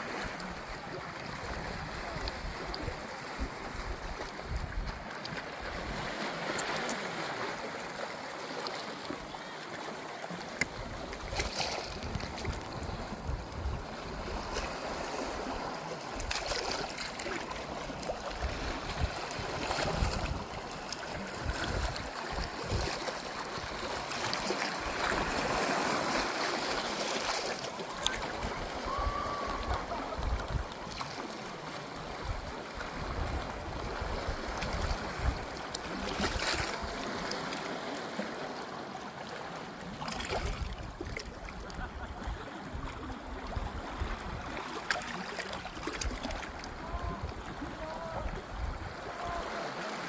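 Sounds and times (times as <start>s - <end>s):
sea waves washing on shore: 0.0s - 50.0s.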